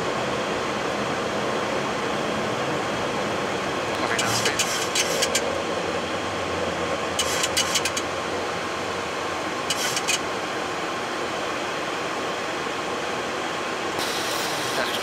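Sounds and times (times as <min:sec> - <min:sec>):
aircraft engine noise: 0:00.0 - 0:15.0.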